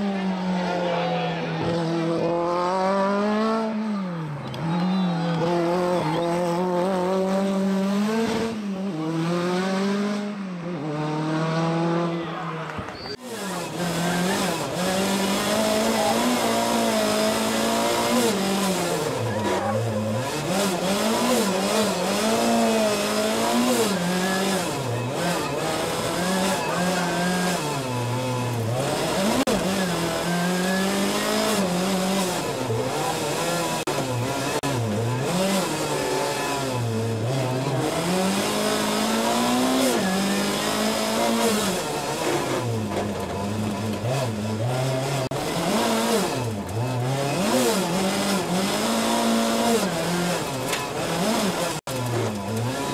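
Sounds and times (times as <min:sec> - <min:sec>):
rally car engine at full throttle: 0:00.0 - 0:52.9.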